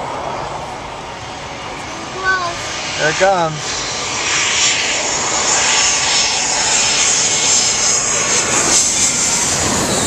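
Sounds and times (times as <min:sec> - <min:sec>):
jet aircraft passing: 0:00.0 - 0:10.0.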